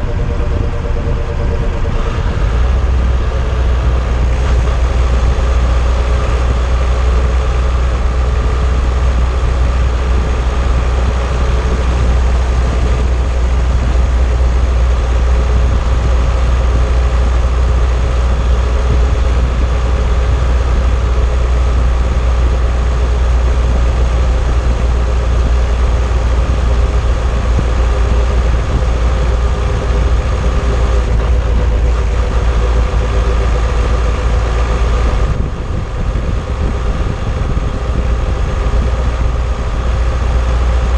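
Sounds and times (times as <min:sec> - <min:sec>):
car road rumble: 0:00.0 - 0:40.9
steady hum: 0:00.0 - 0:40.9.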